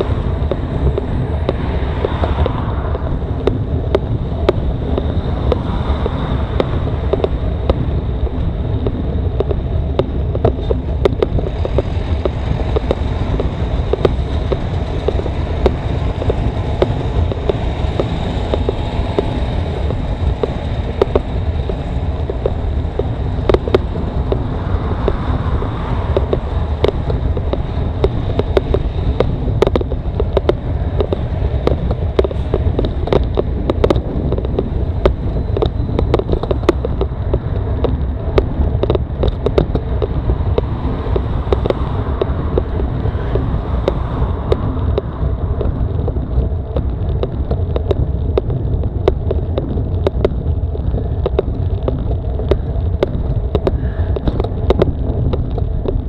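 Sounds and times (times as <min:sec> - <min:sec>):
wind buffeting microphone: 0:00.0 - 0:56.0
bicycle clicks and rattles: 0:08.4 - 0:56.0.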